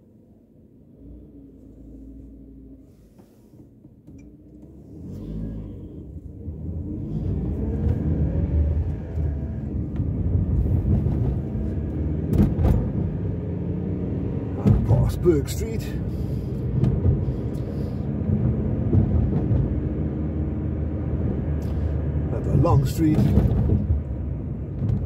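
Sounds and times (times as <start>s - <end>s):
road noise: 0.0s - 25.0s
car engine accelerating: 0.4s - 3.4s, 4.0s - 25.0s.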